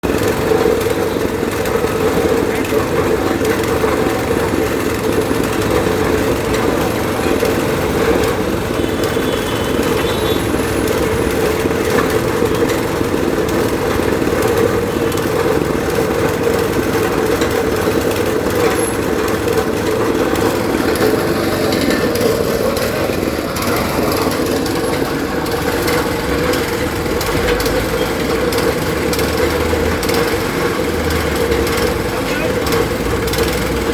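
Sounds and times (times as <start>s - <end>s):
air compressor engine running: 0.0s - 33.9s.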